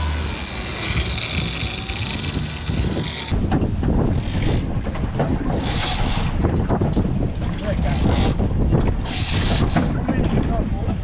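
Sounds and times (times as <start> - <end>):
boat wake churning: 0.0 - 11.0
wind buffeting microphone: 0.0 - 11.0.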